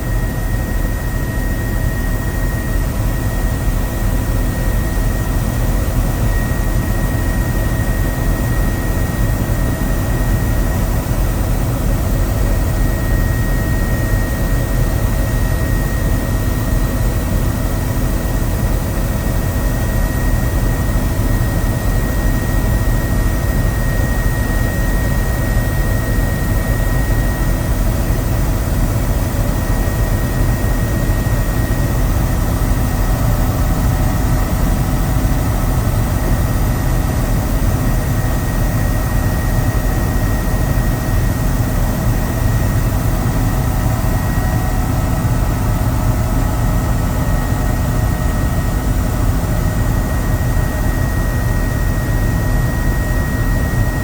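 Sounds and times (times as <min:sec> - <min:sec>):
helicopter engine and rotor roar: 0:00.0 - 0:54.0
high turbine whine: 0:00.0 - 0:54.0.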